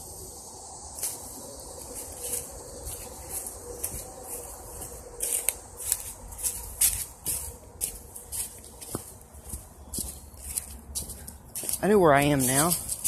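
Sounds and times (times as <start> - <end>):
footsteps crunching dry leaves: 0.9 - 13.0.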